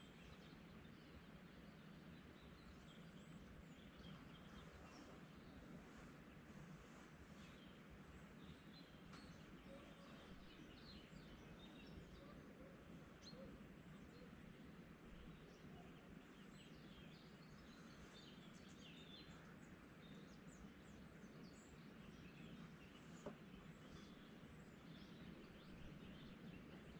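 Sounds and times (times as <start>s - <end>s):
songbirds chirping: 0.0s - 26.9s.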